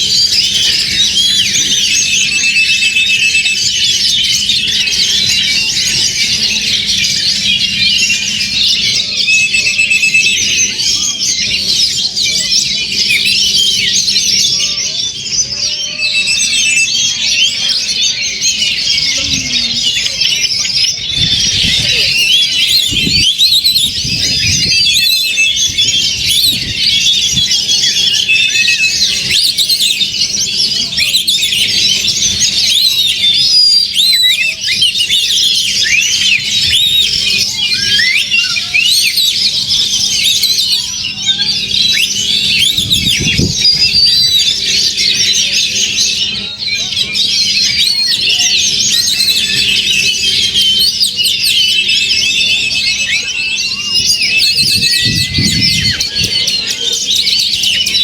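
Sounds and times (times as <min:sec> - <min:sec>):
birds singing: 0:00.0 - 0:58.0.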